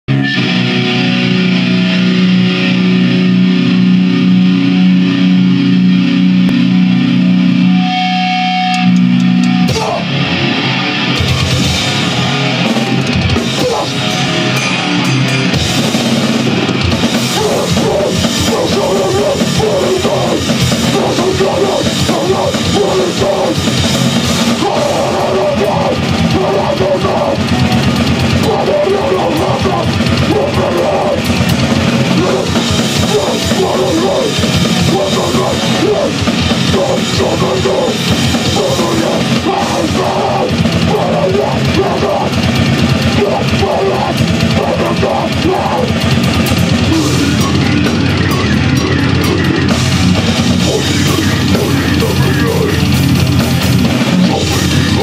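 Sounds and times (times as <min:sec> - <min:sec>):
distorted guitar and bass drone: 0:00.0 - 0:55.0
drum kit playing fast: 0:00.1 - 0:55.0.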